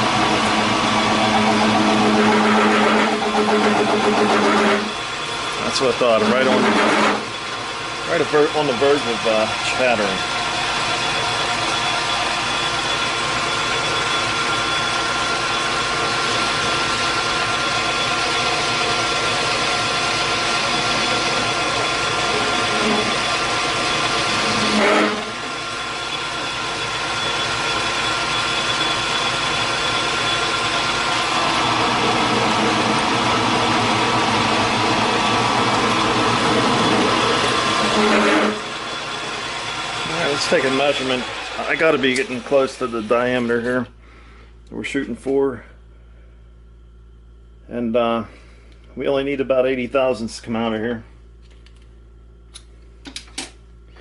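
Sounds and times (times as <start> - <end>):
lathe tool cutting hiss: 0.0 - 43.5
metal lathe humming: 0.0 - 43.7.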